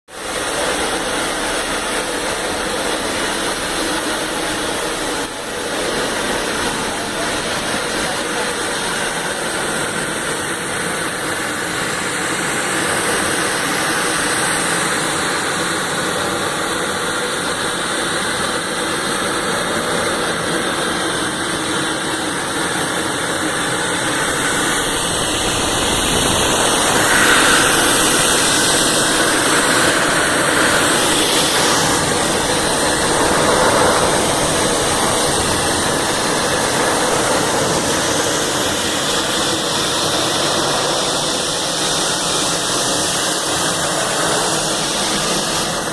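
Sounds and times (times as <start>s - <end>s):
drum dryer running: 0.1s - 45.9s.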